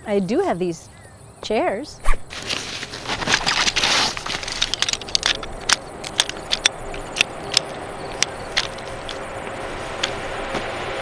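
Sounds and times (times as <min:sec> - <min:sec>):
rustling of camp chairs: 0:02.0 - 0:11.0.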